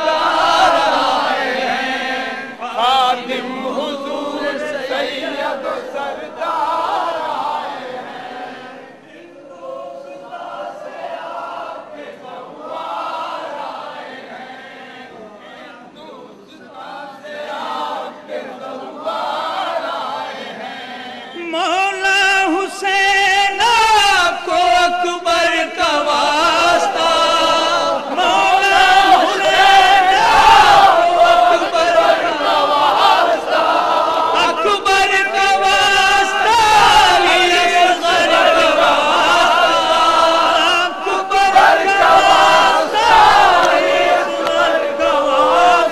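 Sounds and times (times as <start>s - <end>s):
men chanting a lament: 0.0s - 45.9s.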